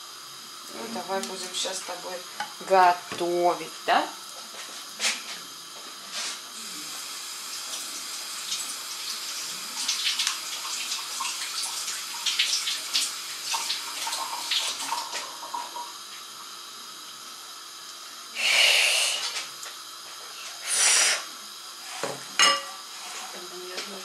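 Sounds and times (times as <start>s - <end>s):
water running in a sink: 0.0s - 24.0s.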